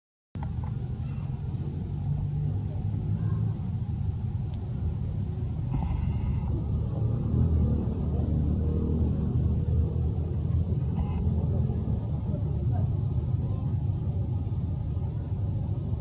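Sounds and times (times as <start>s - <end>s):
low rumble: 0.4s - 16.0s.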